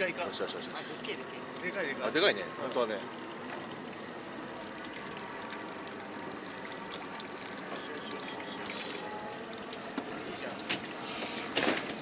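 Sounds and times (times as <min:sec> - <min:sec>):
sea water washing and trickling: 0:00.0 - 0:12.0.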